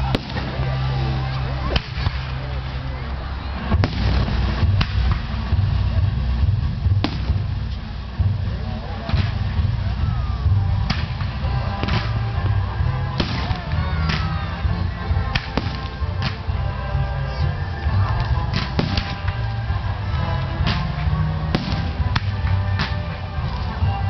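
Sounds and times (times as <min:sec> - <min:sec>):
crowd voices: 0:00.0 - 0:24.0
fireworks bangs: 0:00.0 - 0:24.0
music with heavy bass: 0:00.0 - 0:24.0.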